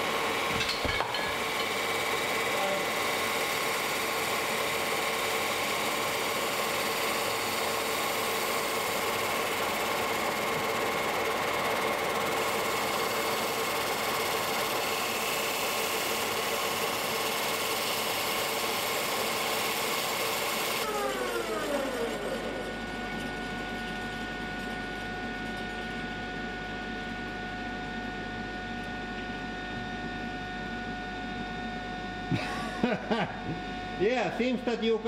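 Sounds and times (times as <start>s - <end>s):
lathe mechanical drone: 0.0s - 35.0s.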